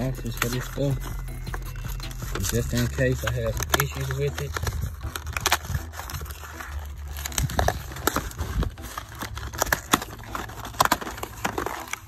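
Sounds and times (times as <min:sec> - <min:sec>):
cardboard box tearing: 0:01.7 - 0:12.0.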